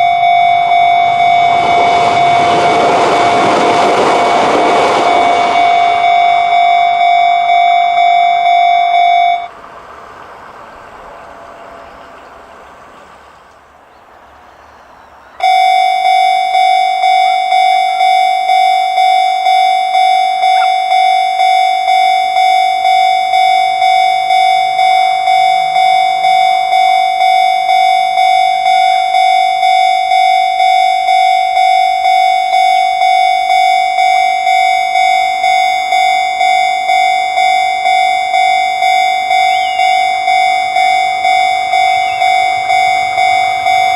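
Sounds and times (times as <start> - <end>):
level-crossing alarm ringing: 0.0 - 9.5, 15.0 - 43.9.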